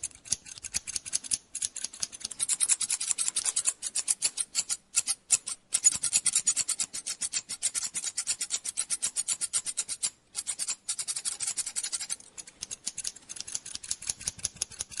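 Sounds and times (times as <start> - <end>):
scissors snipping hair: 0.0 - 15.0.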